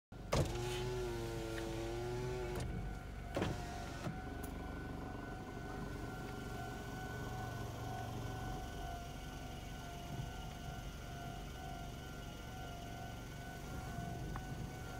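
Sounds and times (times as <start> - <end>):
power window motor whirring: 0.2 - 14.9
level-crossing warning bell: 2.3 - 14.9.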